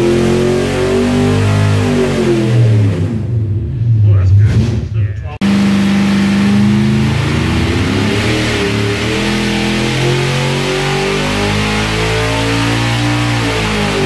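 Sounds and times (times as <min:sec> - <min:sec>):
engine revving at full throttle: 0:00.0 - 0:03.5, 0:05.4 - 0:14.0.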